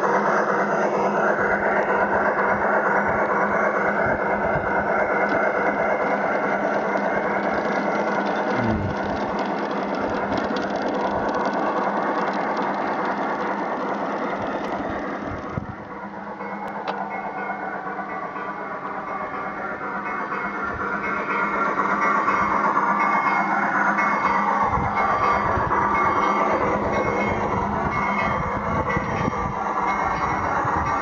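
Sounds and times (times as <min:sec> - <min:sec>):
model locomotive steam sounds: 0:00.0 - 0:31.0
wheels rattling on rail: 0:00.0 - 0:31.0.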